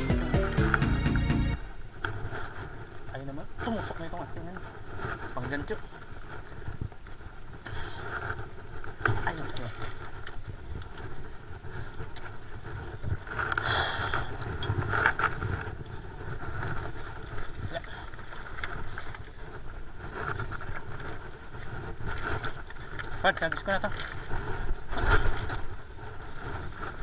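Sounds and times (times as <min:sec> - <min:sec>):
wind rumbling on microphone: 0:01.6 - 0:27.0.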